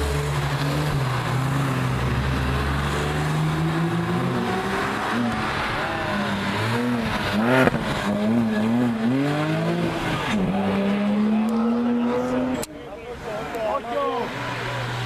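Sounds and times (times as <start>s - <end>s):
sports car engine revving: 0.0s - 12.6s.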